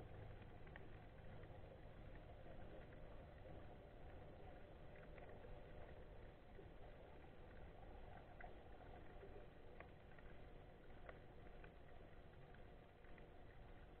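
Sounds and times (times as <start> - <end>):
faint underwater noise: 0.0 - 14.0.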